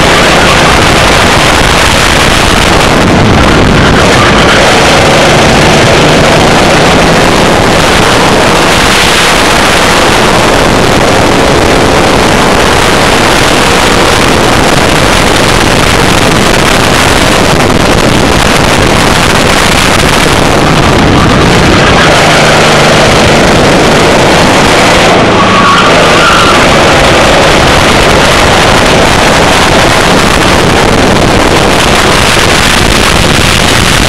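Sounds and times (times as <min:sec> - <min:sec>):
racing kart engine running: 0:00.0 - 0:34.0
wind rush on microphone: 0:00.0 - 0:34.0.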